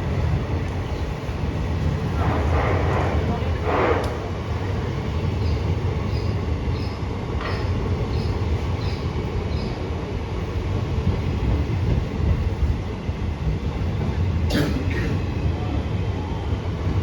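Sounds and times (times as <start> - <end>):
train coaches rumbling: 0.0 - 17.0.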